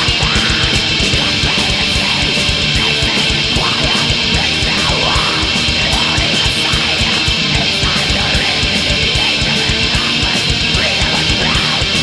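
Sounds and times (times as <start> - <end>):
heavily distorted guitars: 0.0 - 12.0.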